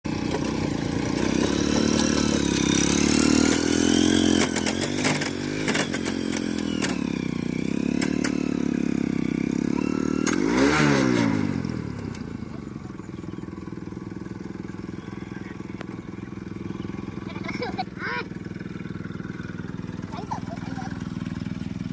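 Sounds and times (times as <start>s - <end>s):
engine revving with clatter: 0.1s - 21.9s.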